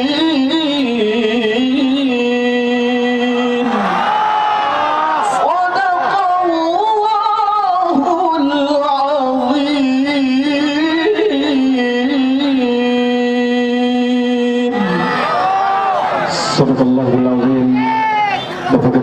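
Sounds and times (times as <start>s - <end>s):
man reciting melodically: 0.0s - 3.6s, 5.4s - 15.0s, 16.3s - 19.0s.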